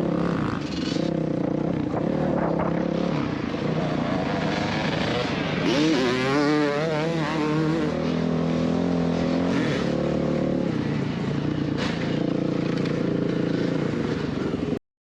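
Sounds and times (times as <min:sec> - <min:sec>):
dirt bike engine revving: 0:00.0 - 0:14.8.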